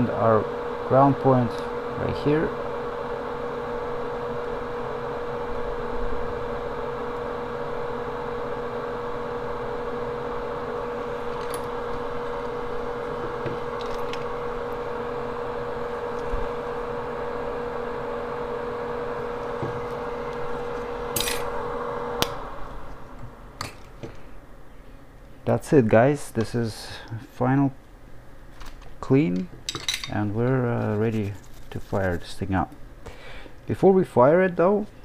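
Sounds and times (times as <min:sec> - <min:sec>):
electric fan humming: 0:00.0 - 0:35.0.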